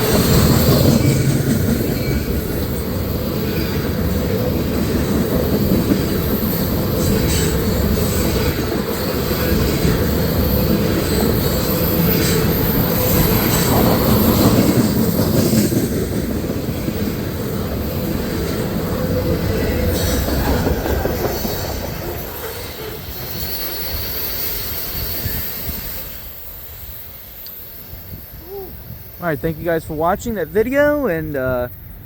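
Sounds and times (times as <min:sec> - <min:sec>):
freight train wheels on rails: 0:00.0 - 0:32.0.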